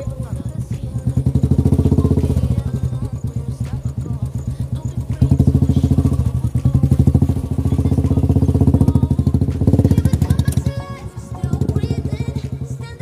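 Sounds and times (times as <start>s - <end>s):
motorcycle engine pulsing: 0.0s - 13.0s.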